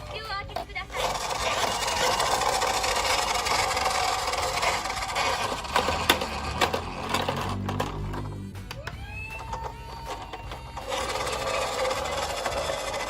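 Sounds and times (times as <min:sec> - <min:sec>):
toy car whirring rattle: 0:00.0 - 0:13.0.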